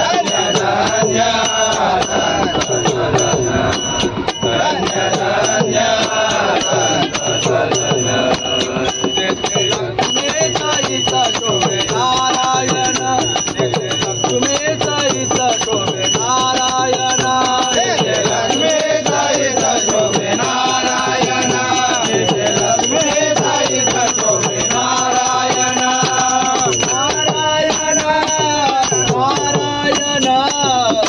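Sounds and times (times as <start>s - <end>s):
men singing devotional song: 0.0s - 31.0s
rhythmic percussion clicking: 0.0s - 31.0s.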